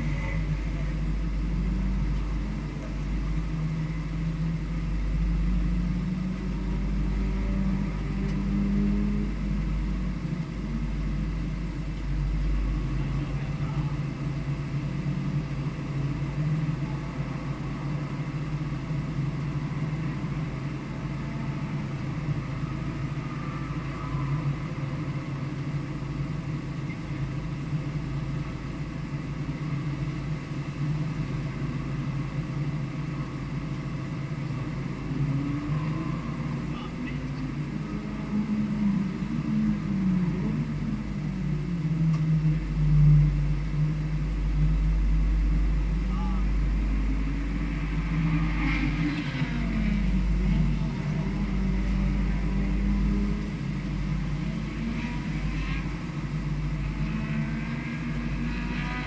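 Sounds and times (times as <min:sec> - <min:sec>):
low rumble: 0:00.0 - 0:59.0
vehicle engine revving: 0:00.0 - 0:59.0.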